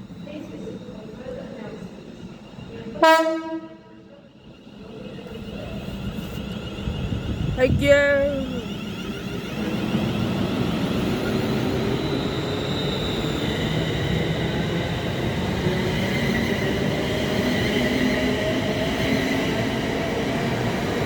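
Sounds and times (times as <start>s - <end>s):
electric train whine: 0.0s - 21.0s
train rumble: 0.0s - 21.0s.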